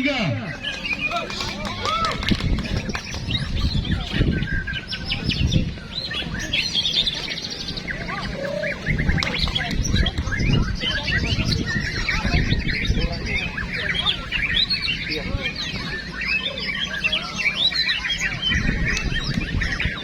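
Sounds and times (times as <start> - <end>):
birds singing whistles and chirps: 0.0 - 20.0.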